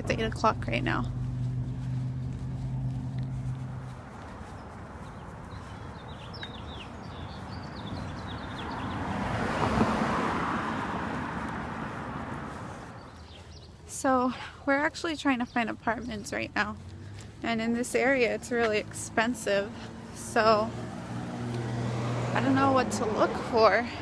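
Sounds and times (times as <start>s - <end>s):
low engine hum: 0.0s - 14.0s, 15.3s - 24.0s
car passing: 0.0s - 14.5s, 15.8s - 24.0s
small birds chirping: 0.2s - 9.4s, 11.3s - 21.7s.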